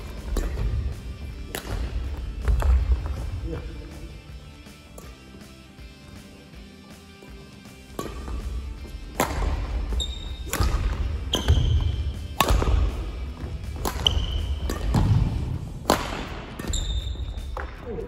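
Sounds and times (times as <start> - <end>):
racket hitting shuttlecock: 0.0 - 3.4, 4.0 - 6.5, 7.2 - 18.0
shoes squeaking on court: 0.0 - 15.7, 16.3 - 17.9.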